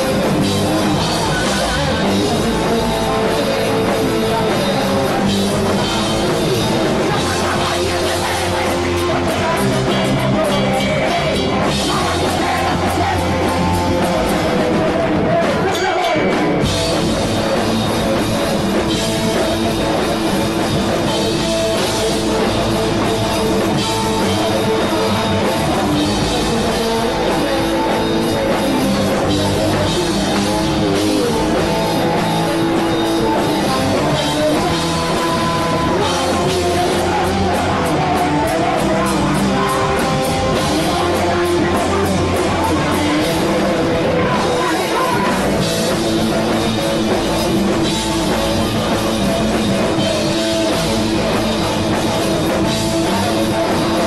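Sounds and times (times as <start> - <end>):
drum kit: 0.0 - 54.0
electric guitars: 0.0 - 54.0
person singing: 0.0 - 54.0.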